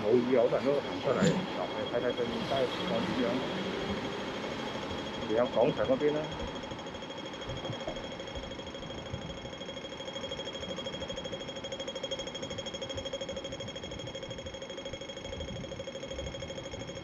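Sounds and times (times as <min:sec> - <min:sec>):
rapid electronic beeping: 0:00.0 - 0:17.0.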